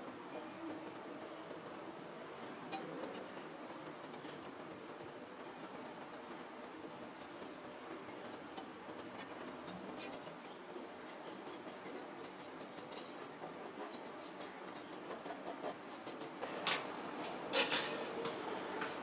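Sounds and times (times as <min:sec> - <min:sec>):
steel sheet scratching and ticks: 0:02.7 - 0:19.0.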